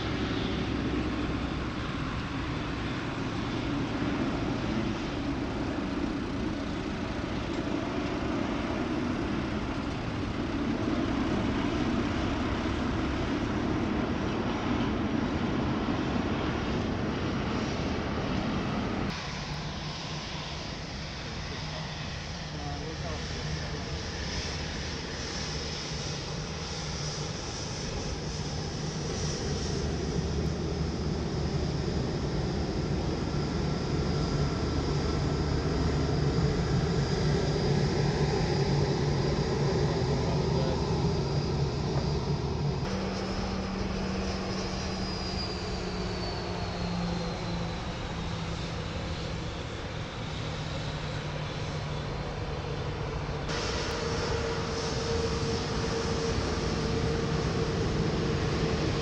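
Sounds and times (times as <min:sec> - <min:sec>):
jet engine high whine: 0:00.0 - 0:59.0
jet engine low hum: 0:00.0 - 0:59.0.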